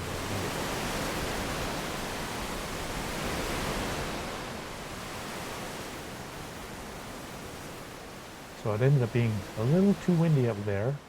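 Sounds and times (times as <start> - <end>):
strong wind: 0.0 - 9.8
ocean surf: 0.0 - 11.0.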